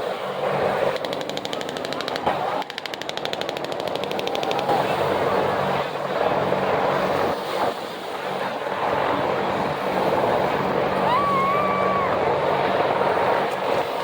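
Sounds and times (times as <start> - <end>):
helicopter engine and rotors: 0.0 - 14.0.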